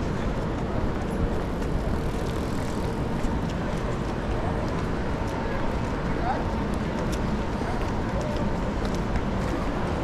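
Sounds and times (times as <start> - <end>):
hubbub of people: 0.0 - 10.0
traffic: 0.0 - 10.0.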